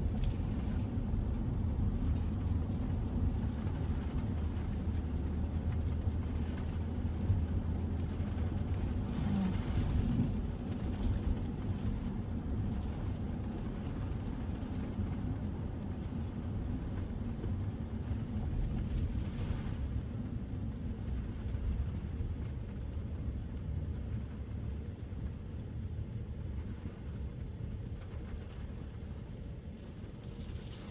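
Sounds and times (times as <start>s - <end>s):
pickup truck driving rumble: 0.0s - 30.9s.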